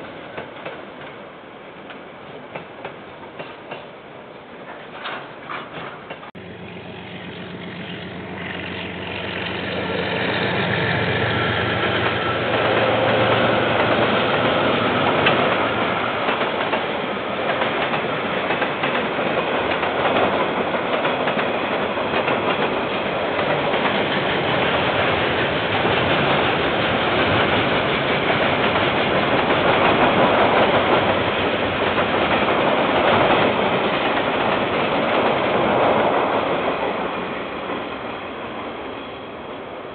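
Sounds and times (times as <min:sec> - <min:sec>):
train wheels rumbling and clattering: 0:01.8 - 0:38.8.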